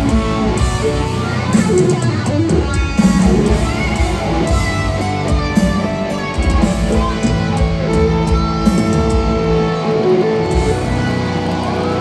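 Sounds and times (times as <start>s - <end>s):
distorted electric guitars: 0.0s - 12.0s.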